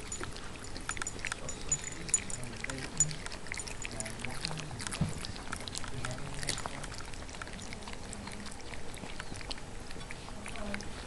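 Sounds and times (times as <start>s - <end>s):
dog food crunching in metal bowl: 0.0s - 11.0s.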